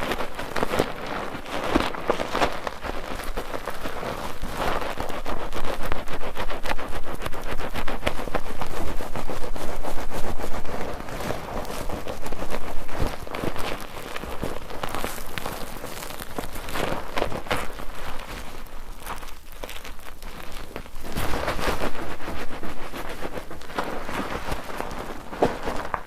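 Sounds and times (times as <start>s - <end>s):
soap lather squishing: 0.9s - 25.2s.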